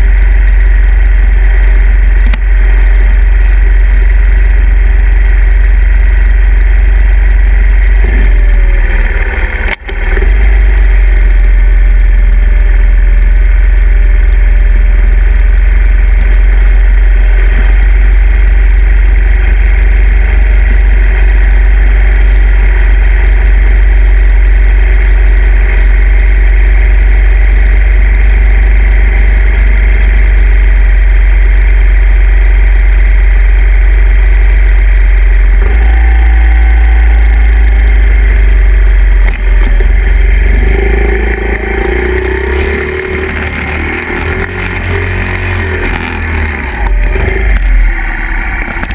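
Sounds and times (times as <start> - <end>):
dirt bike engine idling: 0.0 - 48.9.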